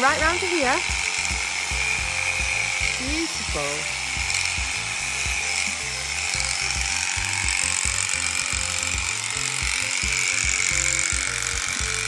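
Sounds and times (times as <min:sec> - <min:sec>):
electric shearing handpiece running: 0:00.0 - 0:12.0
background music with a beat: 0:00.8 - 0:12.0.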